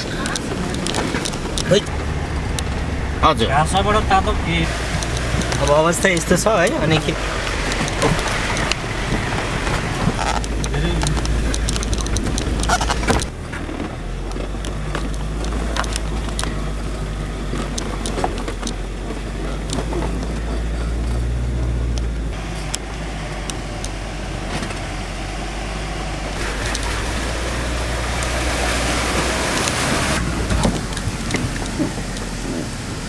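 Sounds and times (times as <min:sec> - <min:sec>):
car engine rumble: 0:00.0 - 0:33.0.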